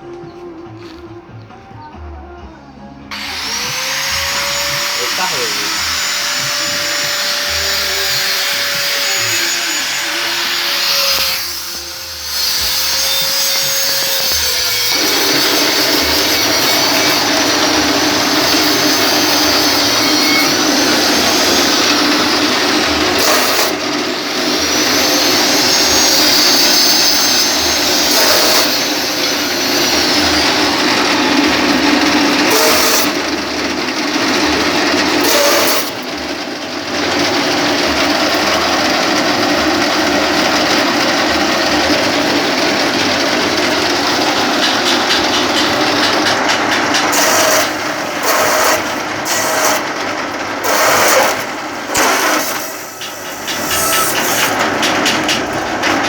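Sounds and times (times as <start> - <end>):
machine motor whirring: 3.1 - 56.0.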